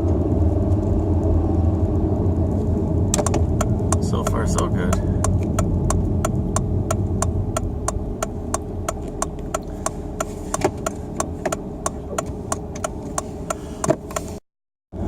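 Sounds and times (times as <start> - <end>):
low road rumble inside car: 0.0 - 15.0.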